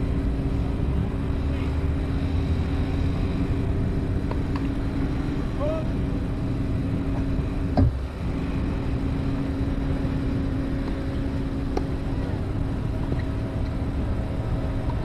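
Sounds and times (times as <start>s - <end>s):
constant hum: 0.0s - 15.0s.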